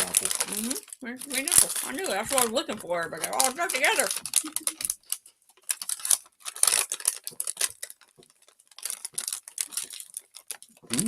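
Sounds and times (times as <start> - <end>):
plastic packet crinkling: 0.0 - 10.9.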